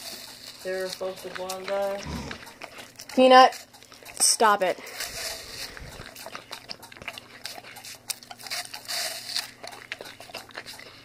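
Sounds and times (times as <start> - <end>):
animal chewing an apple: 0.0 - 11.0.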